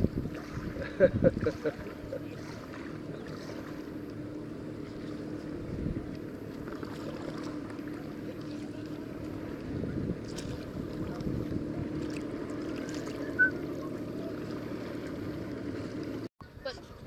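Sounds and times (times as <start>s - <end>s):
paddle splashes: 0.0s - 16.3s
wind: 0.0s - 17.0s.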